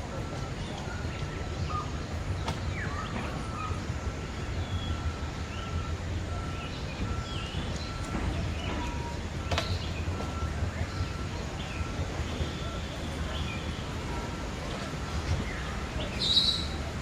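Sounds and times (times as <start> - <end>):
low steady rumble: 0.0 - 17.0
birds chirping and twittering: 0.1 - 17.0.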